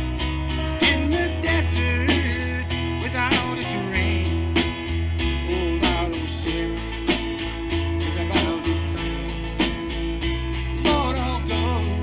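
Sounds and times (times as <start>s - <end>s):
bass notes: 0.0s - 12.0s
steady drum beat: 0.0s - 12.0s
strummed acoustic guitar: 0.0s - 12.0s.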